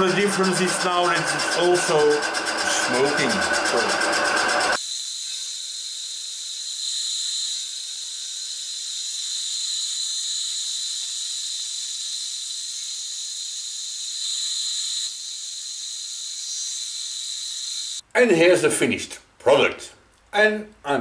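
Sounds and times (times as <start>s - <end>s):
milling machine squealing: 0.0s - 18.0s.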